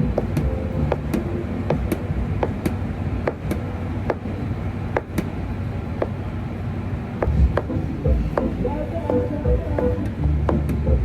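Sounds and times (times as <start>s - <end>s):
low machine rumble: 0.0s - 11.0s.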